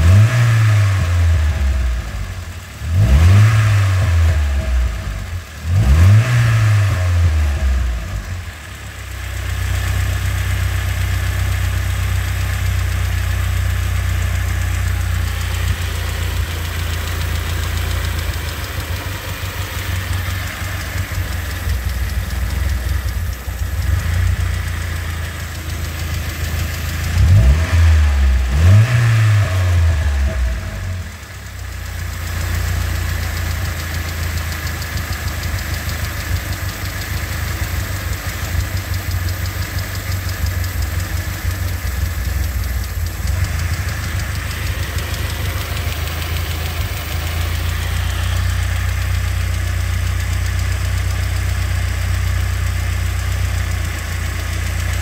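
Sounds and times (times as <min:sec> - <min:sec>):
petrol engine revving and idling: 0:00.0 - 0:55.0.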